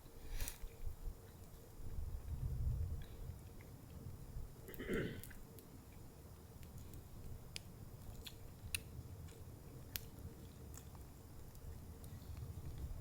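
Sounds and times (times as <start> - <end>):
faint sharp crackles and ticks: 0.2 - 13.0.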